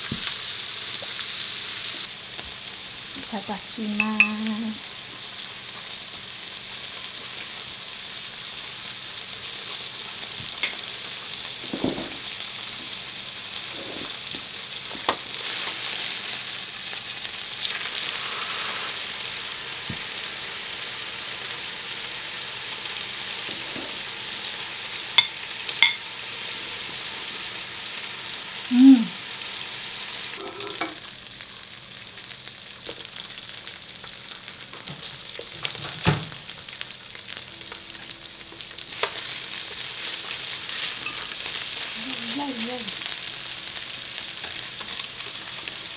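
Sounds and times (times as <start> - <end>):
meat sizzling on grill: 0.0 - 45.9.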